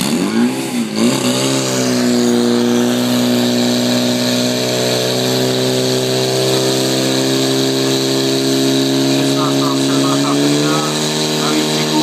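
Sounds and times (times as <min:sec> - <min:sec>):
pump engine running: 0:00.0 - 0:12.0.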